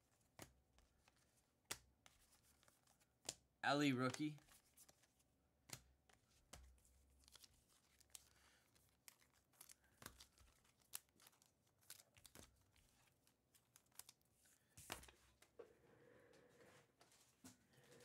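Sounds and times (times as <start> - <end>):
cards clicking and rustling: 0.0 - 15.6.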